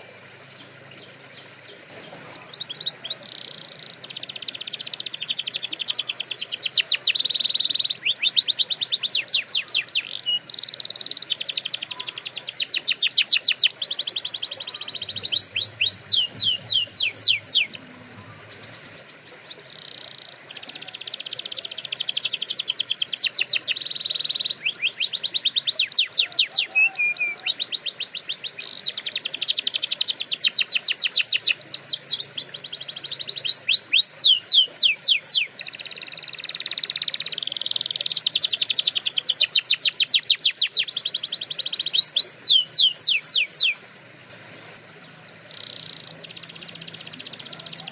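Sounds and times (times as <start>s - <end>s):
canary singing trills: 0.0s - 43.8s, 45.0s - 47.9s.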